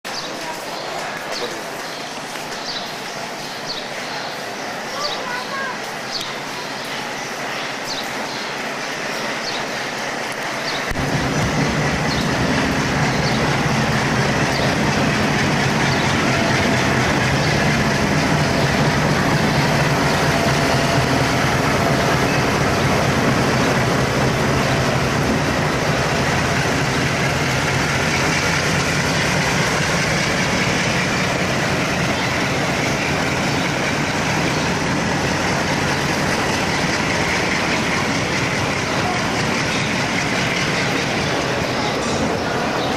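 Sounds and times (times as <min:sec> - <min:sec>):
diesel locomotive engine running: 0:00.1 - 0:42.9.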